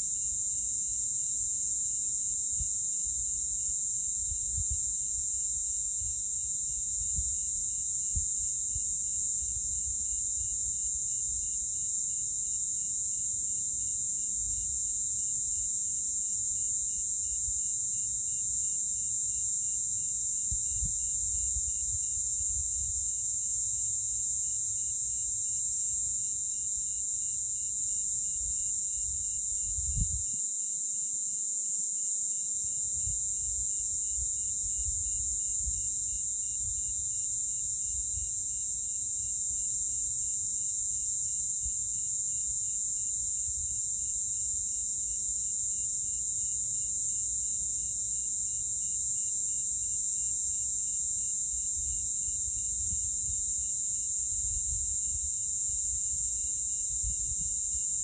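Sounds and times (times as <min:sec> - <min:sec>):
cicadas buzzing: 0:00.0 - 0:30.1, 0:32.1 - 0:58.0.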